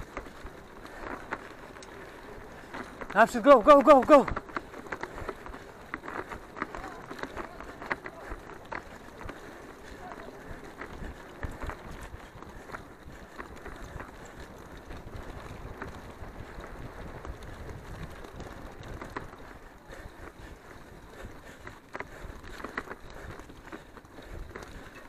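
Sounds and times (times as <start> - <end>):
bike tyre rumble on dirt: 0.0 - 25.0
wind buffeting microphone: 4.3 - 25.0.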